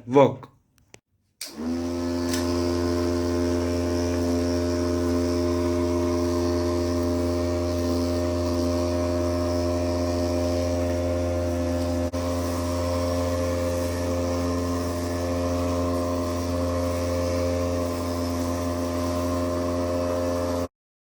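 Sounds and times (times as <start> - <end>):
vacuum motor humming and whining: 1.4 - 20.7.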